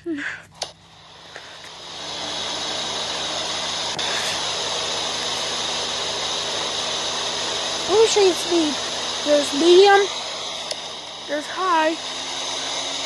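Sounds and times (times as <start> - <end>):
faint motor hum: 0.0 - 13.0
fan air rushing: 0.2 - 13.0.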